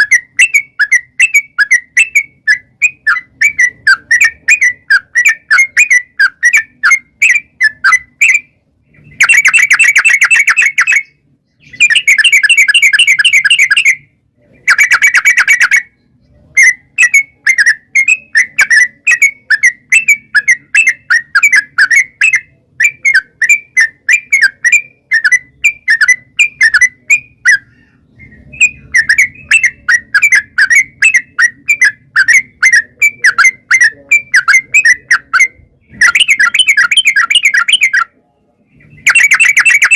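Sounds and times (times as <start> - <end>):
bulbul chirping song: 0.0 - 39.9
rapid bird trills: 0.0 - 39.9.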